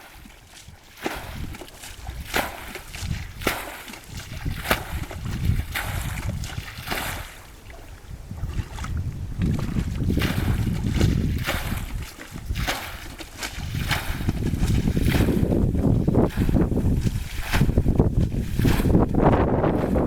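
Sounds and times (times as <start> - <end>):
water sloshing and splashing: 0.0 - 20.0
wind rumble on microphone: 0.0 - 20.0.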